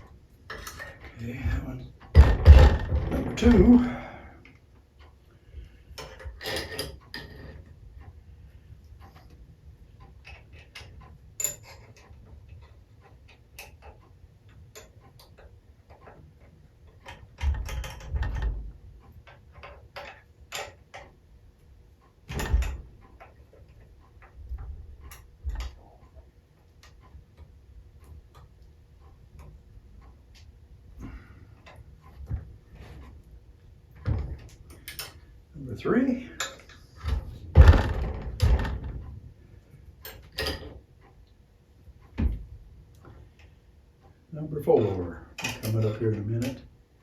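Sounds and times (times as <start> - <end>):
tools clicking and knocking on metal: 0.0 - 41.4, 42.0 - 46.8.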